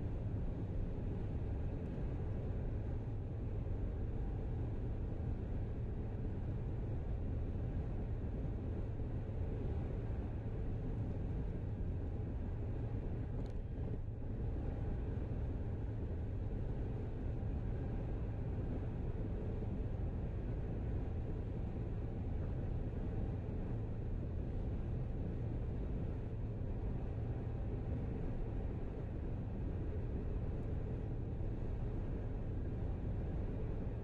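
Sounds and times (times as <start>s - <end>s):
road and tyre rumble: 0.0s - 34.0s.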